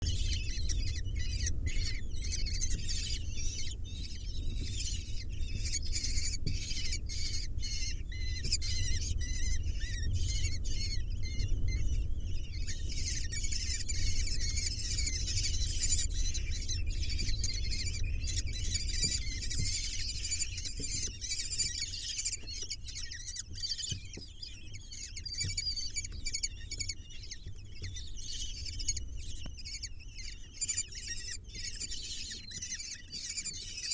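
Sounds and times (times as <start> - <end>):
steady low rumble: 0.0 - 33.1
nestlings begging calls: 0.0 - 33.9.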